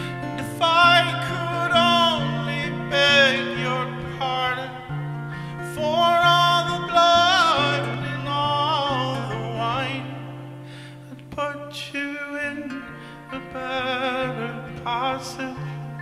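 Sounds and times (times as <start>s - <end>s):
electric guitar picked notes: 0.0s - 16.0s
man singing with vibrato: 0.0s - 16.0s.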